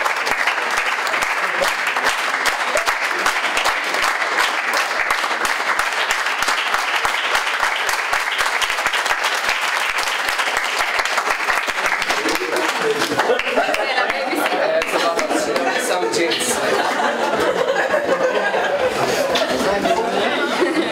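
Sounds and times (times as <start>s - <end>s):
audience applause: 0.0s - 20.9s.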